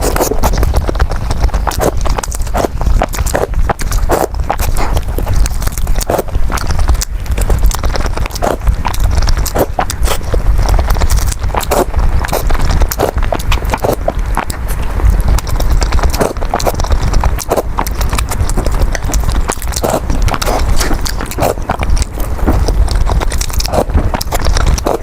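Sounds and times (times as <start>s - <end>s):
low rumble: 0.0s - 25.0s
wet chewing and lip smacking: 0.0s - 25.0s.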